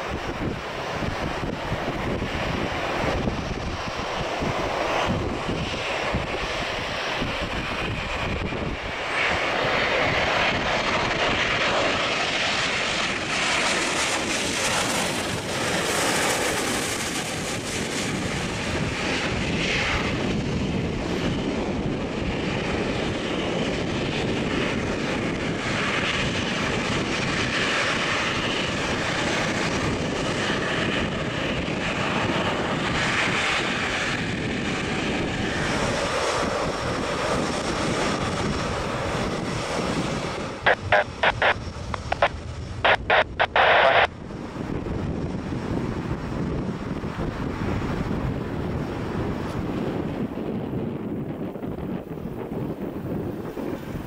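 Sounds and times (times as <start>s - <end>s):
jet airliner roar: 0.0s - 54.0s
wind buffeting microphone: 0.0s - 54.0s.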